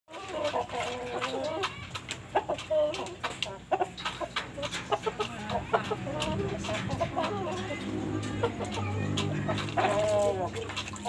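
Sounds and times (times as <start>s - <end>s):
chickens clucking: 0.1s - 11.0s.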